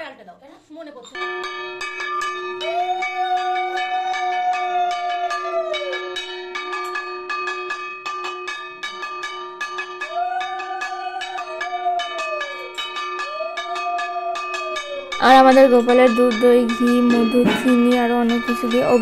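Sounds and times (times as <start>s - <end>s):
hand bell ringing rapidly: 1.2s - 19.0s.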